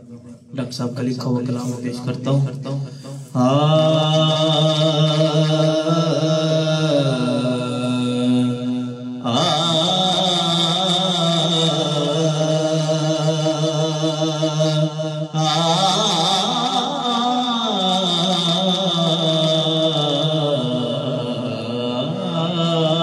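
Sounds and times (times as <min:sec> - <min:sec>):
man singing into microphone: 0:01.2 - 0:23.0.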